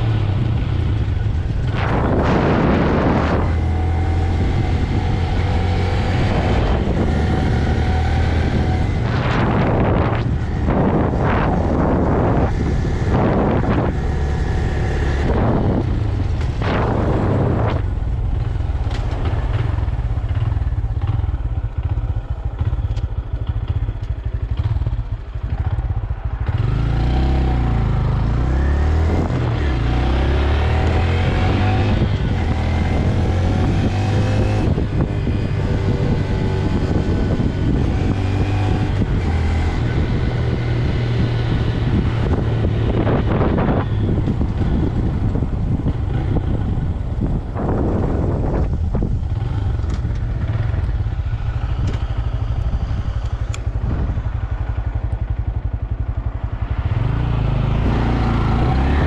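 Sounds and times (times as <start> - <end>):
motorcycle engine revving: 0.0 - 59.0
wind noise on microphone: 0.0 - 59.0.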